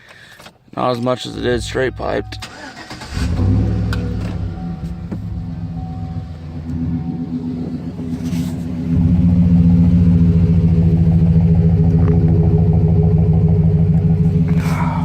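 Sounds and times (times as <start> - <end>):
truck exhaust idling: 1.4 - 15.0.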